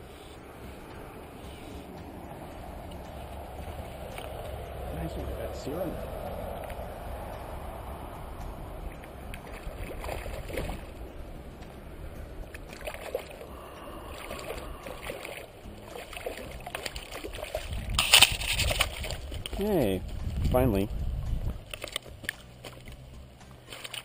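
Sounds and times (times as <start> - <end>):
steady low rumble: 0.0 - 23.7
fish splashing at water surface: 1.0 - 11.0, 12.4 - 19.6, 21.6 - 24.0.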